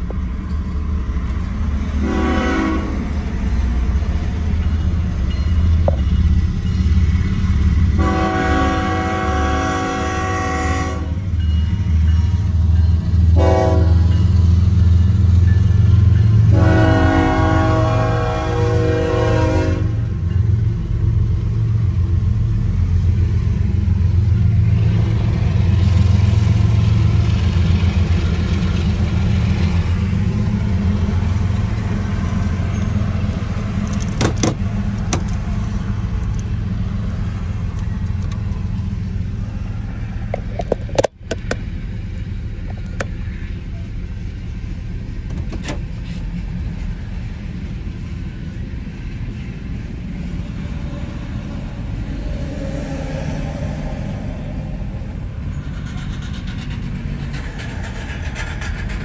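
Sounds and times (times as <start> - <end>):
diesel locomotives rumbling: 0.0 - 59.0
freight train rumbling: 0.0 - 59.0.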